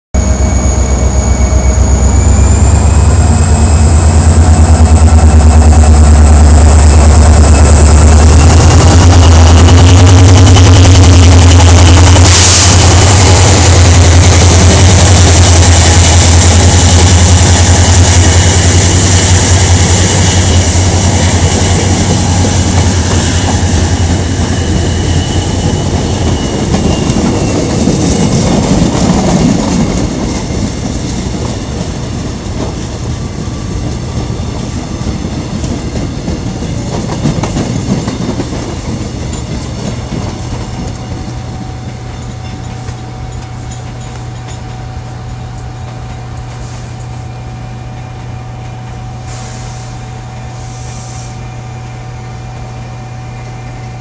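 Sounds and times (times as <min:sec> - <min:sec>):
diesel locomotive engine hum: 0:00.2 - 0:54.0
train wheels rumbling on rails: 0:00.2 - 0:54.0.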